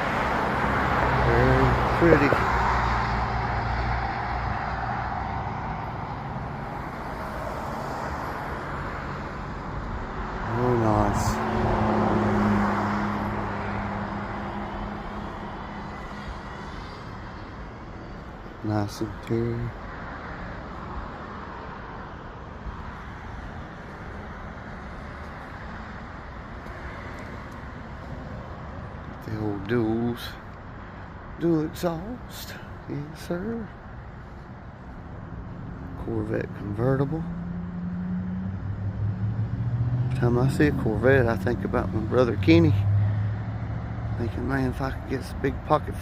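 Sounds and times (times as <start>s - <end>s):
low traffic rumble: 0.0s - 46.0s.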